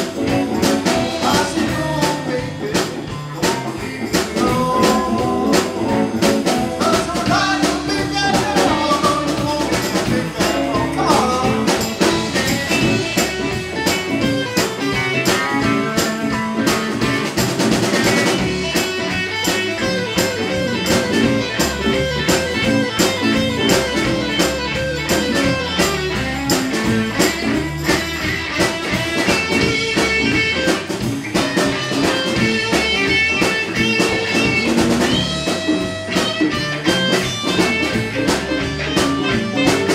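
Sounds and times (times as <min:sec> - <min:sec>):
blues band playing: 0:00.0 - 0:39.9
electric guitar solo: 0:00.0 - 0:39.9.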